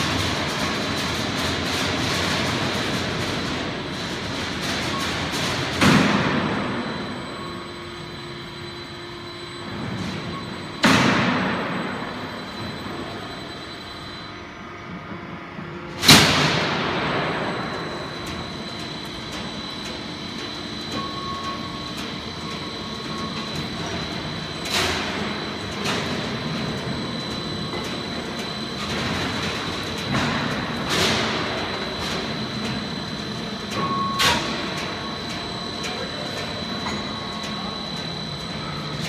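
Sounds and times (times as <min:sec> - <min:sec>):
roll forming machine humming: 0:00.0 - 0:39.0.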